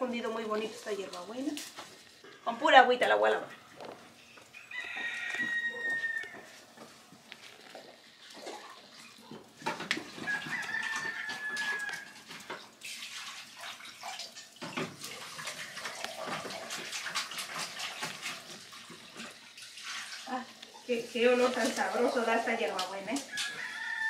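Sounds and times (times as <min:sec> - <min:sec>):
water splashing in a sink: 0:00.0 - 0:04.0, 0:04.6 - 0:24.0
water dripping: 0:00.0 - 0:24.0.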